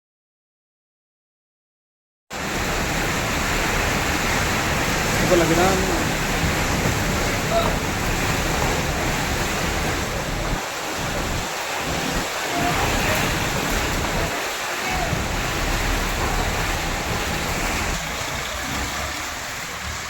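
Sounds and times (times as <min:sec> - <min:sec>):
light rain: 0:02.3 - 0:20.0
rushing wind: 0:02.3 - 0:20.0
wind buffeting microphone: 0:02.4 - 0:20.0.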